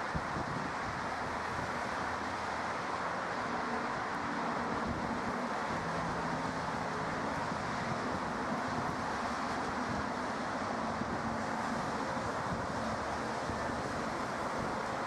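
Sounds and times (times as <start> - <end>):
distant engine hum: 0.0 - 15.0
steady rushing noise: 0.0 - 15.0.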